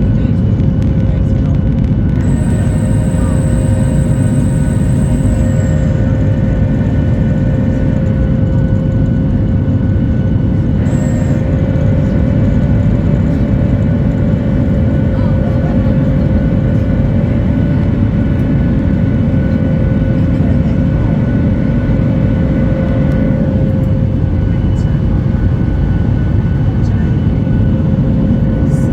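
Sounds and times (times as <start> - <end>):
airplane cabin engine rumble: 0.0 - 28.9
steady whine tones: 0.0 - 28.9.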